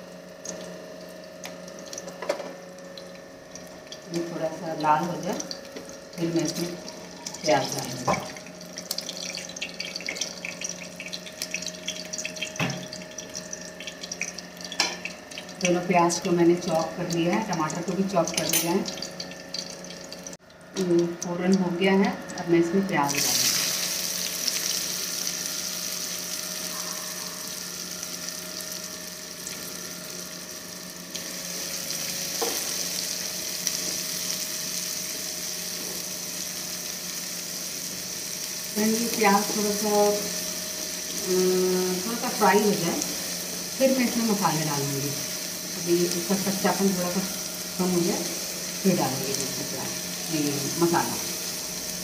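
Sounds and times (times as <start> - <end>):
spices sizzling in hot oil: 0.0 - 52.0.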